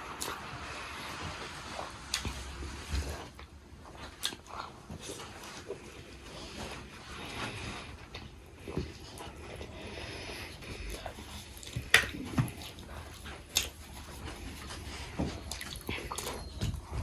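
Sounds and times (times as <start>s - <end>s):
chewing and mouth sounds: 0.0s - 17.0s.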